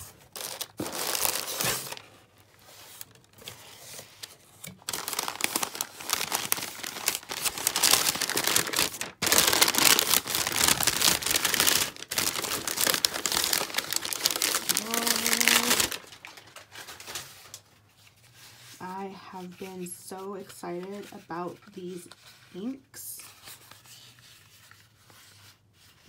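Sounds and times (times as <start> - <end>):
packing paper crinkling and rustling: 0.0 - 19.6, 20.4 - 26.0.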